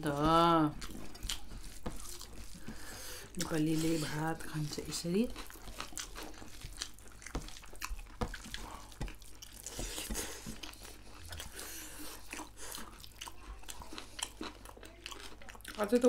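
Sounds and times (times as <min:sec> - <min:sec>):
fingers mixing rice on metal plates: 0:00.0 - 0:15.7
chewing and lip smacks: 0:00.7 - 0:04.0, 0:04.6 - 0:16.0.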